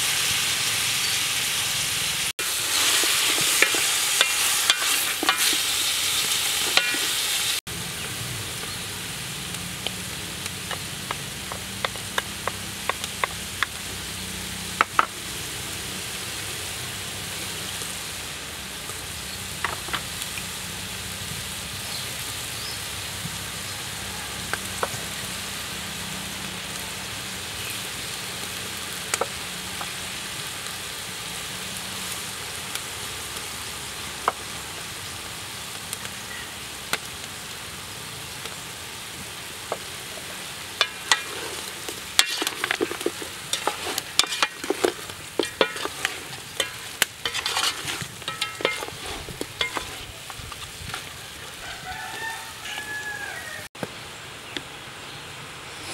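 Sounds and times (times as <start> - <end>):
chicken sizzling in a pot: 0.0 - 55.9.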